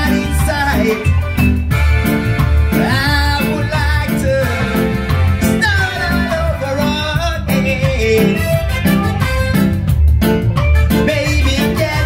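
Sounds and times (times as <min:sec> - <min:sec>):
live reggae band: 0:00.0 - 0:12.0.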